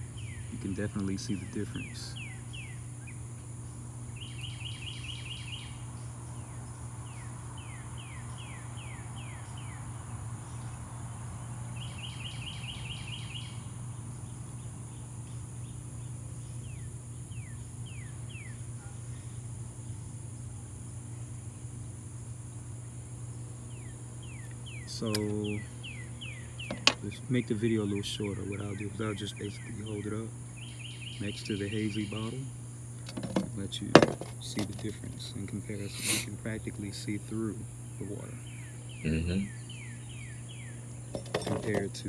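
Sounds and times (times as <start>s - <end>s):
high insect drone: 0.0s - 42.0s
songbird singing: 0.0s - 42.0s
steady low hum: 0.0s - 42.0s.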